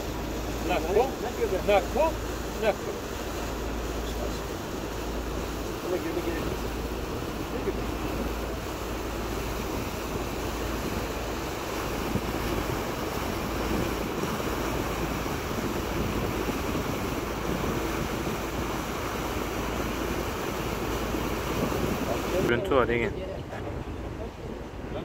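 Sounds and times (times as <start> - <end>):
water noise: 0.0 - 25.0
wind buffeting microphone: 0.0 - 25.0.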